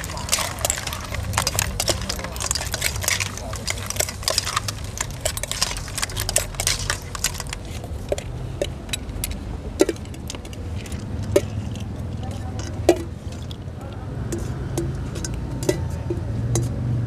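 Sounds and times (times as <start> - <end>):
utensils clinking against bowls: 0.0 - 17.0.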